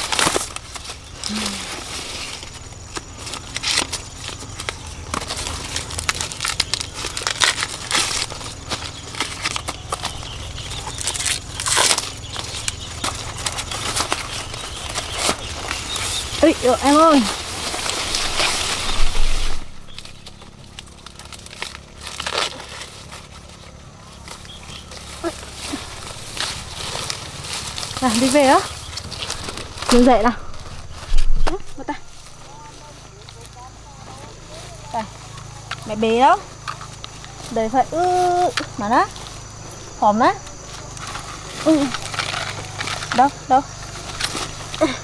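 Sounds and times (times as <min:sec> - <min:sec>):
corn ears snapping off stalks: 0:00.0 - 0:39.6, 0:40.3 - 0:45.0
corn plants rustling: 0:00.0 - 0:45.0.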